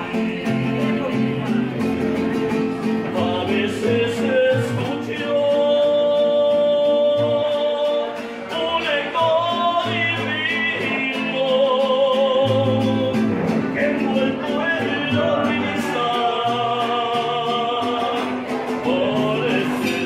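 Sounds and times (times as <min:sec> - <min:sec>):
man singing long notes: 0:00.0 - 0:02.2, 0:02.9 - 0:20.0
plucked guitars rhythm: 0:00.0 - 0:20.0.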